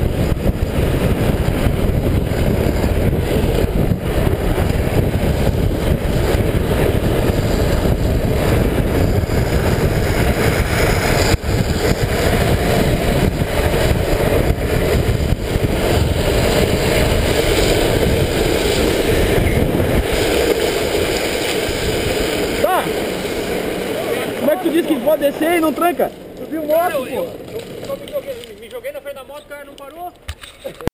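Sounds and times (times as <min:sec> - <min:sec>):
wind rush on microphone: 0:00.0 - 0:28.4
wheels rolling on asphalt: 0:00.0 - 0:30.9.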